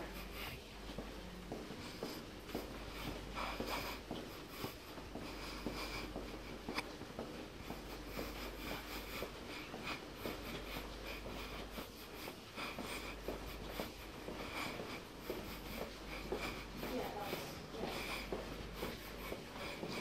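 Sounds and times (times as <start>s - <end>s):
footsteps on hard floor: 0.0s - 20.0s
steady low hum: 0.0s - 20.0s.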